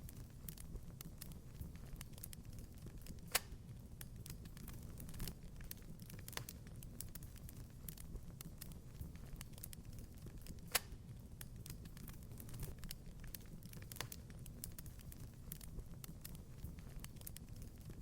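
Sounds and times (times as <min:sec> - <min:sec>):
wood fire crackling: 0:00.0 - 0:18.0
sharp fire pops: 0:00.1 - 0:18.0.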